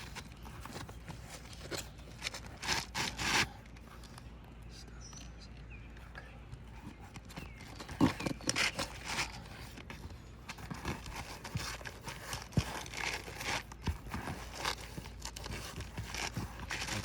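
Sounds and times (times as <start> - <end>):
shingle knocking and scraping: 0.0 - 3.8, 6.5 - 17.0.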